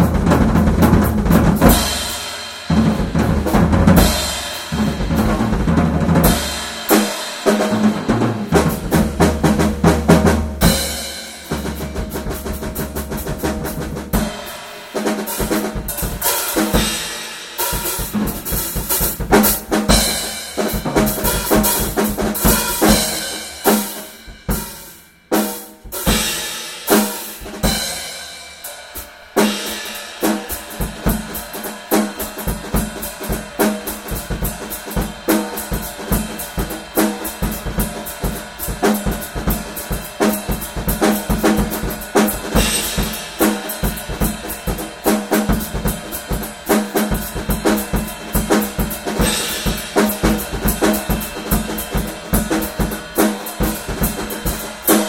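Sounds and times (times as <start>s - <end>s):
drum kit playing fast beat: 0.0s - 55.0s.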